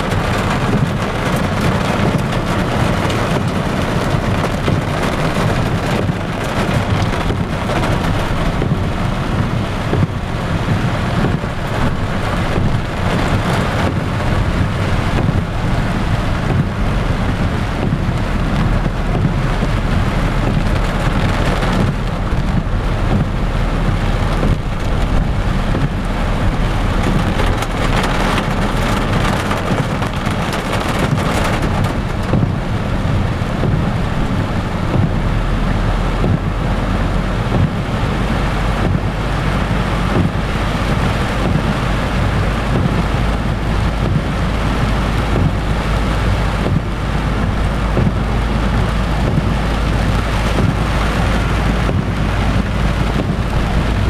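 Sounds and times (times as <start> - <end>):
car driving on wet road: 0.0 - 54.0
rain pelting a car roof: 0.0 - 54.0.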